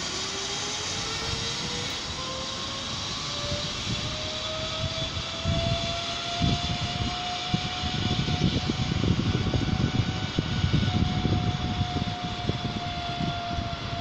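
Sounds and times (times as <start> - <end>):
zip line pulleys whining on cable: 0.0 - 14.0
wind buffeting microphone: 0.8 - 14.0.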